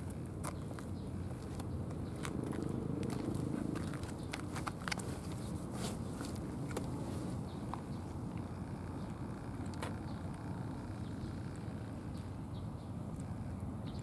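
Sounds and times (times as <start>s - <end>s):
steady low rumble: 0.0s - 13.8s.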